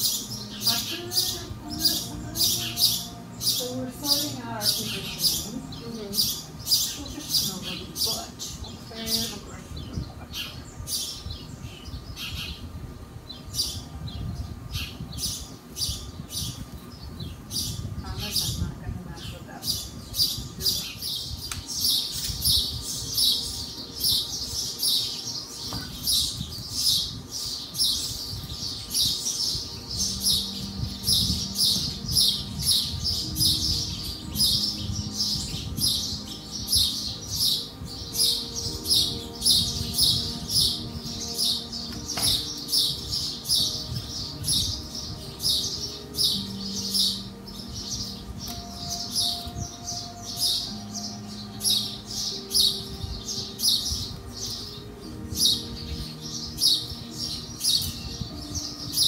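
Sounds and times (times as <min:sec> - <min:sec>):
soft background music: 0:00.0 - 0:59.0.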